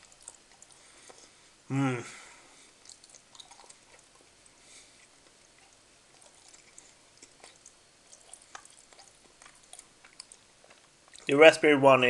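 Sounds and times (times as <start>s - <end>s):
faint chewing clicks: 0.0s - 1.4s, 2.6s - 11.4s.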